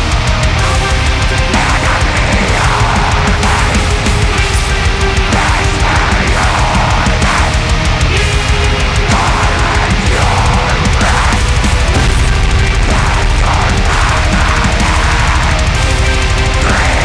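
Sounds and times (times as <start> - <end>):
fast relentless drumming: 0.0 - 17.0
heavy metal band playing: 0.0 - 17.0.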